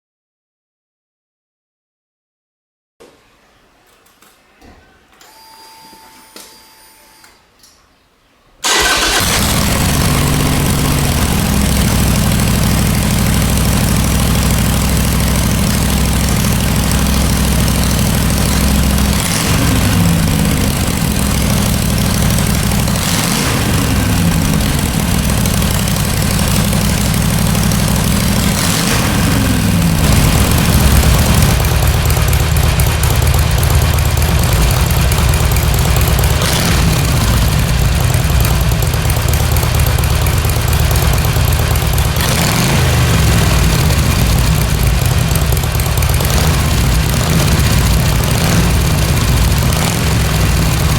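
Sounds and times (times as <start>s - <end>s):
motorcycle engine starting and idling: 8.6s - 50.9s
motorcycle throttle blips: 8.7s - 50.9s.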